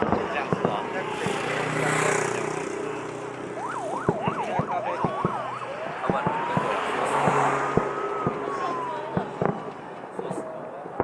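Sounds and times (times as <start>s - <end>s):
fireworks bangs and crackling pops: 0.0s - 3.0s, 3.6s - 11.0s.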